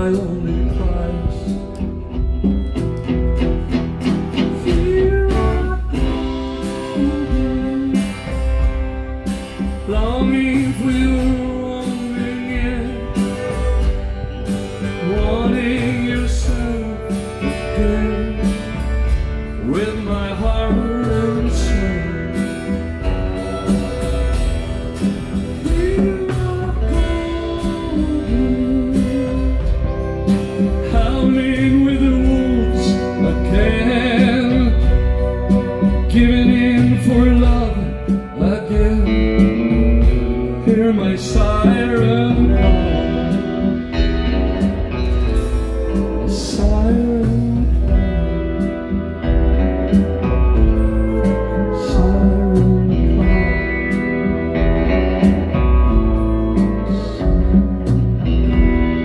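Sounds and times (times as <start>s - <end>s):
man singing into a microphone: 0.0s - 2.0s, 4.5s - 23.6s, 25.6s - 44.1s, 45.7s - 49.3s, 50.2s - 54.8s
strummed acoustic guitar: 0.0s - 59.0s
upright double bass: 0.0s - 59.0s.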